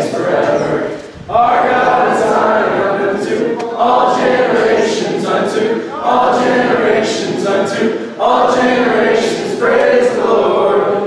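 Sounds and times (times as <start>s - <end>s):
crowd singing unaccompanied: 0.0s - 11.0s.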